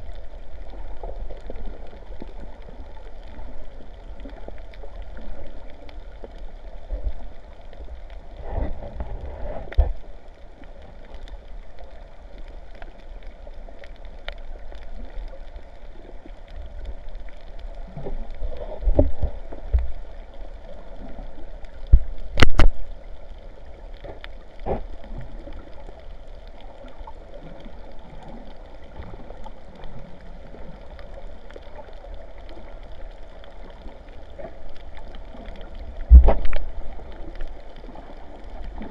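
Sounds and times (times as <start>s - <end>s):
sea water sloshing and gurgling: 0.0s - 38.9s.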